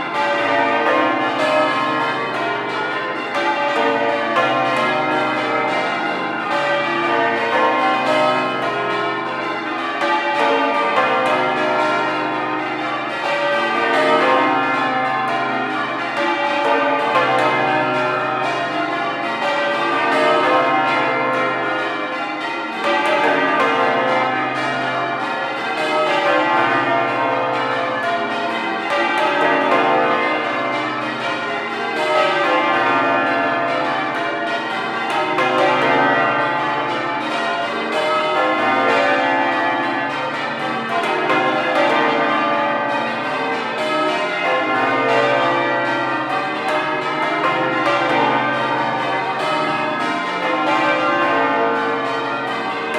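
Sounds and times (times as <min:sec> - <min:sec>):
church bells change ringing: 0:00.0 - 0:52.9.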